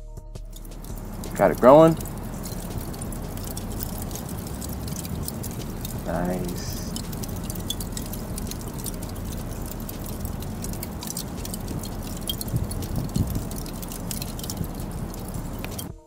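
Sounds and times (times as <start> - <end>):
charcoal crackling and popping: 0.5 - 16.0
low rumble: 0.5 - 16.0.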